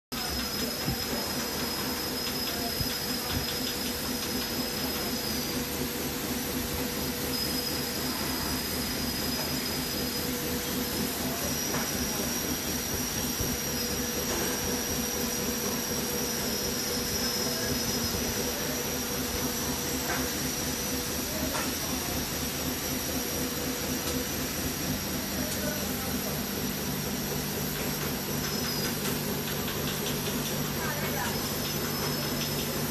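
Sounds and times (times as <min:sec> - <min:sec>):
high machine whine: 0:00.1 - 0:32.9
machine hiss and hum: 0:00.1 - 0:32.9.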